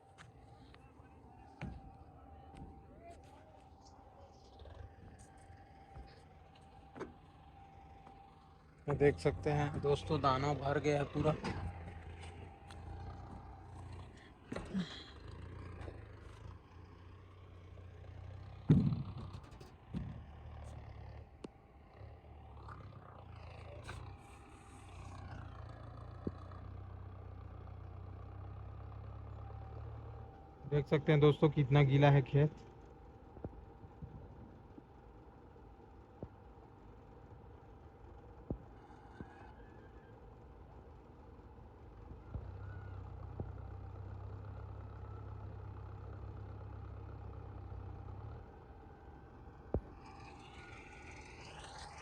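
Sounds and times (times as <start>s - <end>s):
combine harvester engine humming: 0.0s - 52.0s.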